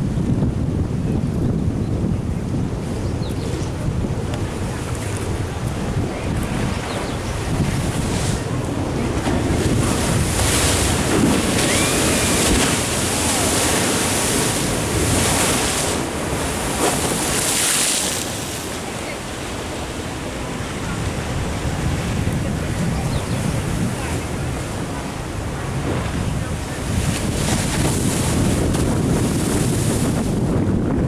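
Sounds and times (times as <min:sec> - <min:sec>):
wind buffeting microphone: 0:00.0 - 0:31.0
ocean waves against a wall: 0:02.7 - 0:31.0.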